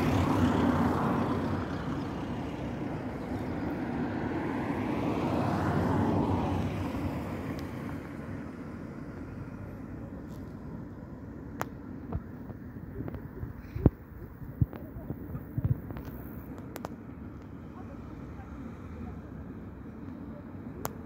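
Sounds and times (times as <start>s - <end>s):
passing vehicles rushing: 0.0s - 21.0s.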